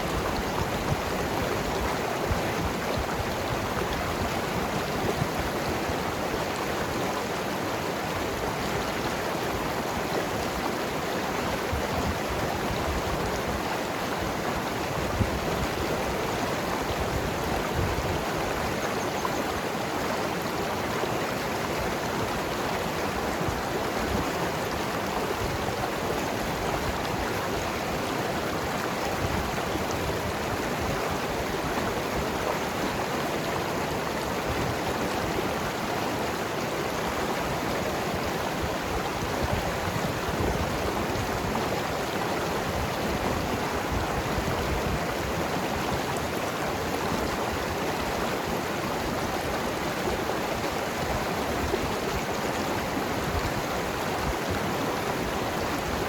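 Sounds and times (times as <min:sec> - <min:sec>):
river gurgling over rocks: 0:00.0 - 0:56.0.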